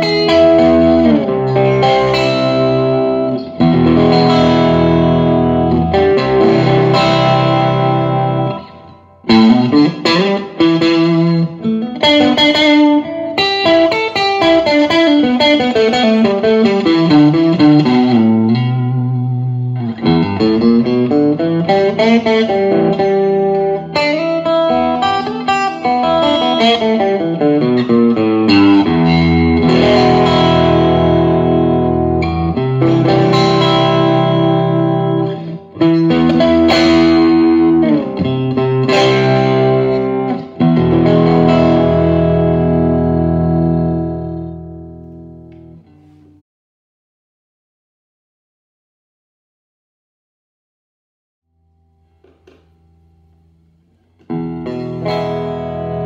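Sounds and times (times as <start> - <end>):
electric guitar: 0.0 - 46.4, 51.9 - 56.0.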